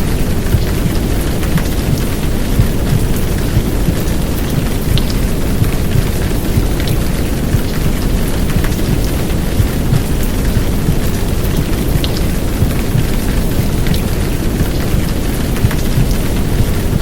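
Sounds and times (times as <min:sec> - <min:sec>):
heavy rain hiss: 0:00.0 - 0:17.0
raindrop impacts: 0:00.0 - 0:17.0.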